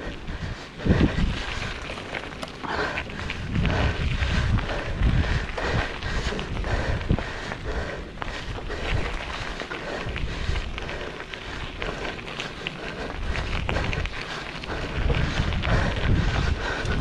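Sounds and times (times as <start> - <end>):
bike rattling: 0.0 - 17.0
bike tyres crunching on dirt: 0.0 - 17.0
wind buffeting microphone: 0.0 - 17.0.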